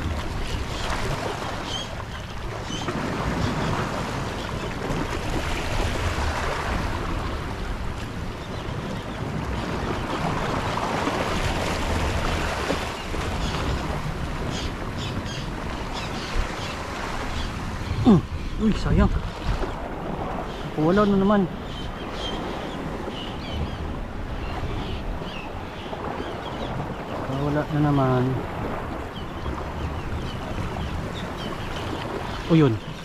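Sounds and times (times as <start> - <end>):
sea waves washing: 0.0 - 33.0
wind rumbling on microphone: 0.0 - 33.0.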